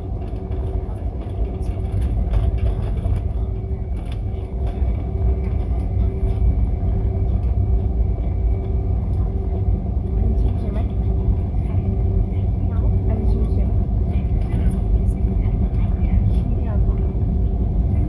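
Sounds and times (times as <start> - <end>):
aircraft cabin rumble: 0.0 - 18.0
faint steady hum: 0.0 - 18.0.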